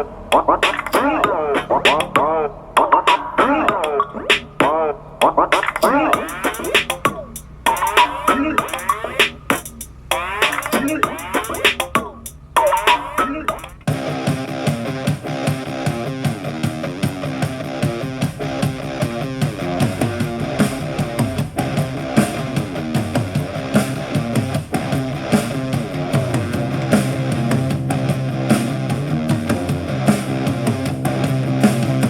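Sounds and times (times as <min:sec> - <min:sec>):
punk rock music through speaker: 0:00.0 - 0:32.0.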